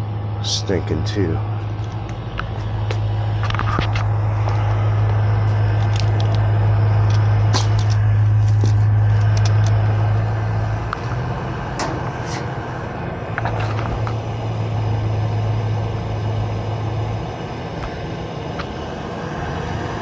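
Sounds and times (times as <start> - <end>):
gas furnace humming: 0.0 - 20.0.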